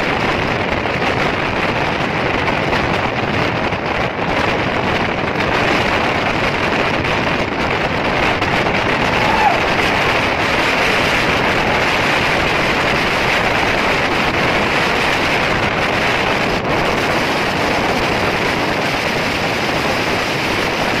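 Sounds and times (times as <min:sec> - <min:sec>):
train rushing at speed: 0:00.0 - 0:21.0
wind buffeting microphone: 0:00.0 - 0:21.0.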